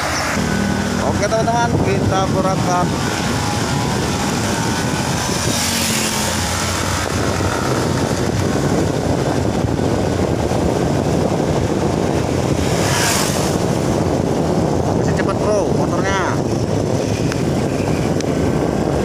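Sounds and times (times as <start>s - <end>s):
wind rushing over microphone: 0.0s - 19.0s
motorcycle engine running: 0.4s - 19.0s.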